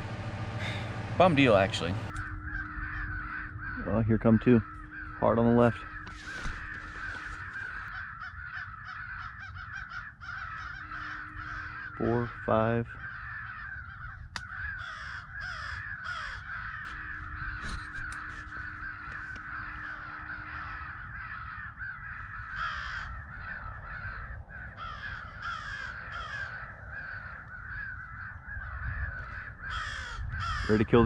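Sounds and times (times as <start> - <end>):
crows cawing: 0.0 - 31.0.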